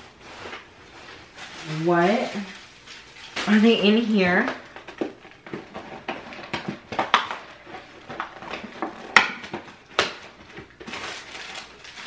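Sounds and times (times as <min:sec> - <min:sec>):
food wrappers crinkling: 0:00.0 - 0:12.0.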